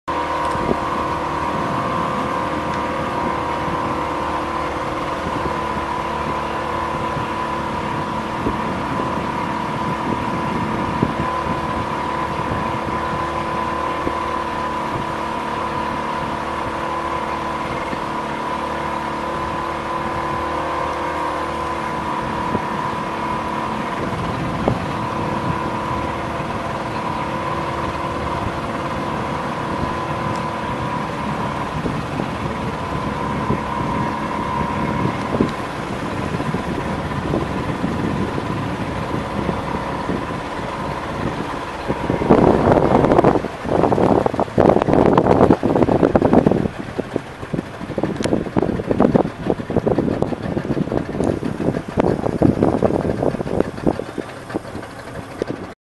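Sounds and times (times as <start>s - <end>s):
boat motor droning: 0.0s - 55.8s.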